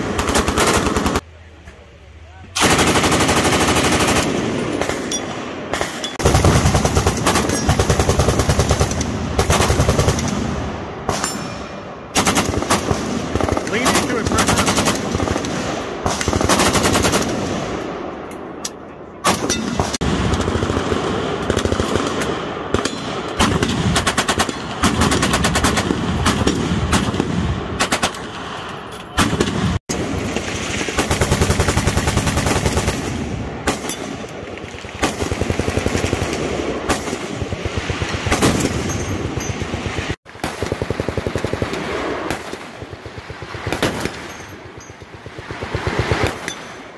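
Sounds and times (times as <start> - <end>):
automatic gunfire: 0.0 - 1.2, 2.6 - 5.1, 5.7 - 11.3, 12.1 - 17.8, 19.2 - 28.3, 29.2 - 34.2, 35.0 - 44.4.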